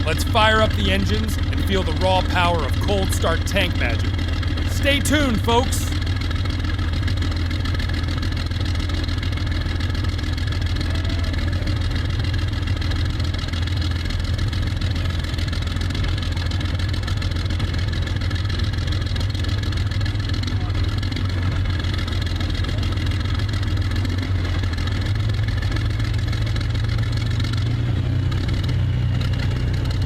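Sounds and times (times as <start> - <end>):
tank engine idling: 0.0 - 30.0.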